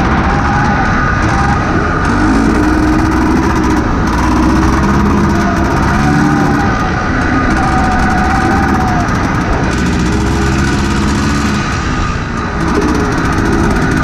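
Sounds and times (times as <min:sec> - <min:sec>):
engine revving: 0:00.0 - 0:14.0
heavy low rumble: 0:00.0 - 0:14.0.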